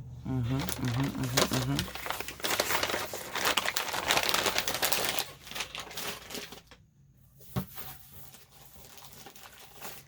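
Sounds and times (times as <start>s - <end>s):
paper and plastic crackling: 0.3s - 10.0s.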